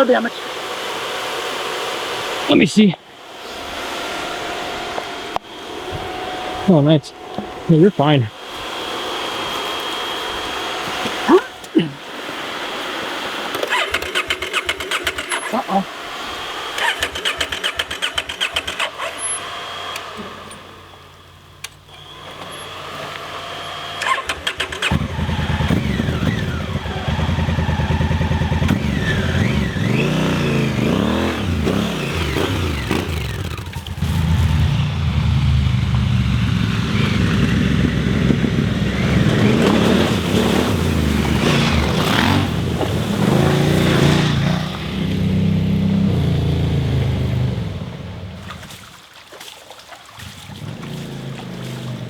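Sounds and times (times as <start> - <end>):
motorcycle engine revving: 0.0 - 48.8, 50.2 - 52.0.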